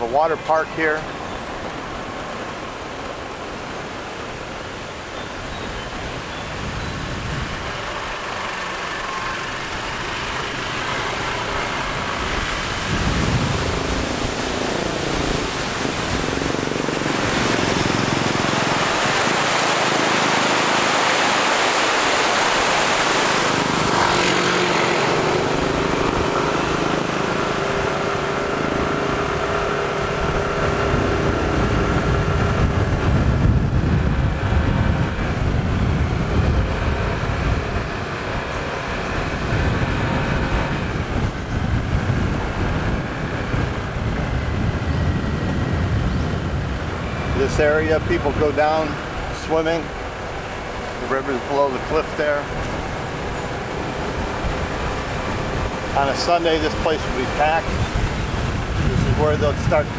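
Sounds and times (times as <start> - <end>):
road noise: 0.0 - 59.9
wind rushing over microphone: 0.0 - 59.9.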